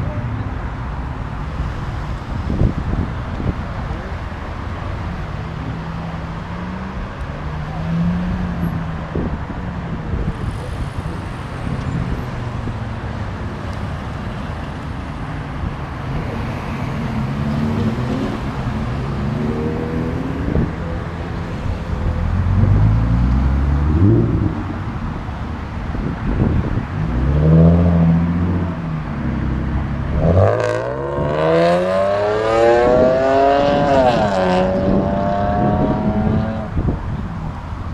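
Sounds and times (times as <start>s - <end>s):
car engines revving: 0.0s - 37.9s.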